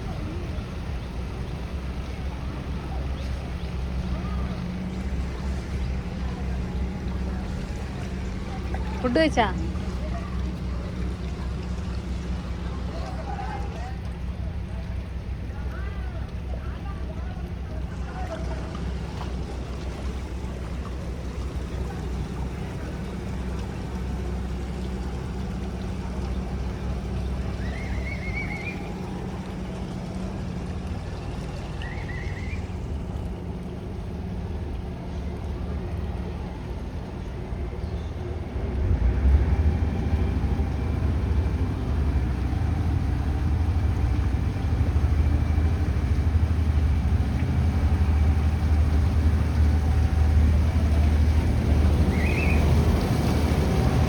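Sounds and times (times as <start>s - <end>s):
boat engine droning: 0.0s - 54.0s
water rushing: 0.0s - 54.0s
wind: 0.0s - 54.0s.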